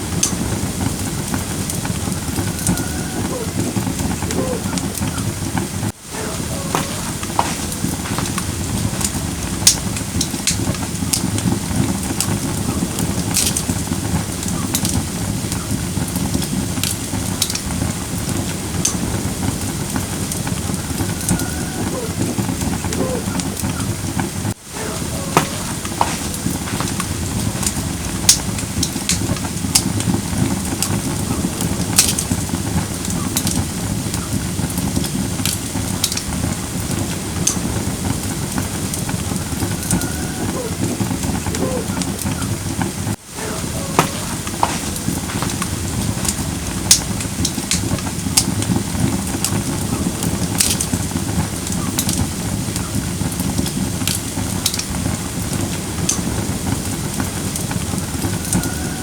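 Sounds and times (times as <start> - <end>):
campfire crackling with pops: 0.0 - 59.0.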